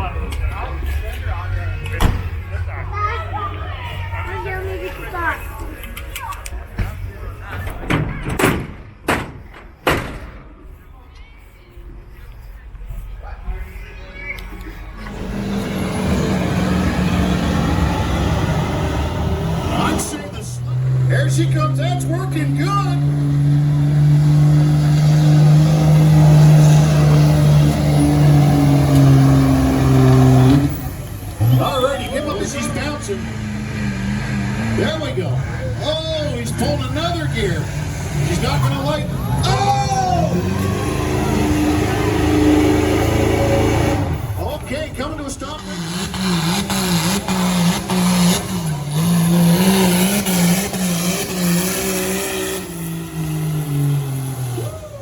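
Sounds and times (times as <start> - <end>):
truck engine droning under load: 0.0 - 55.0.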